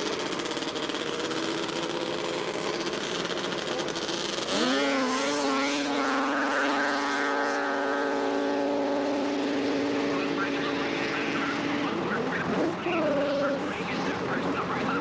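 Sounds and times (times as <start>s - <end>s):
snowmobile engines revving: 0.0s - 15.0s.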